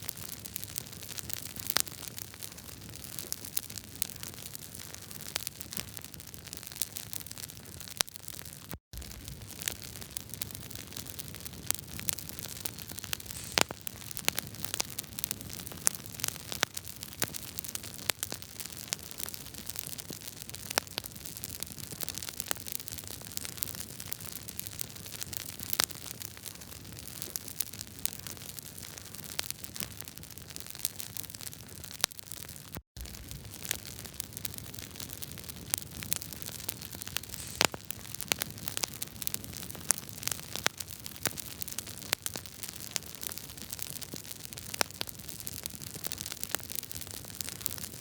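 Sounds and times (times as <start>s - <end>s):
wood fire crackling and popping: 9.0s - 32.4s, 33.0s - 48.0s.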